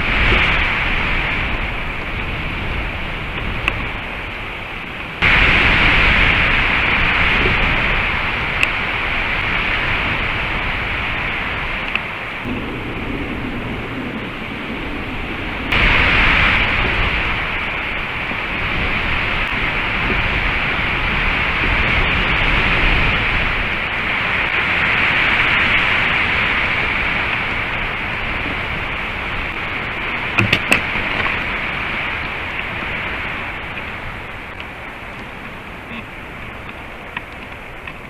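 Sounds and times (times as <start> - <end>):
strong wind on microphone: 0.0 - 38.0.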